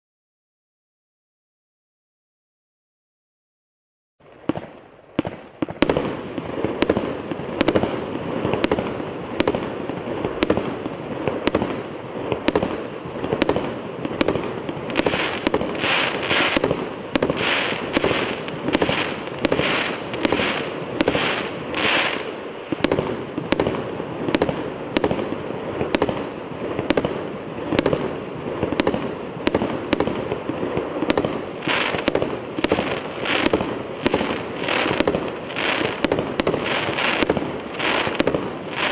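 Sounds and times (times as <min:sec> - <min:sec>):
firework shots: 0:04.2 - 0:38.9
crackle of bursting stars: 0:04.3 - 0:38.9.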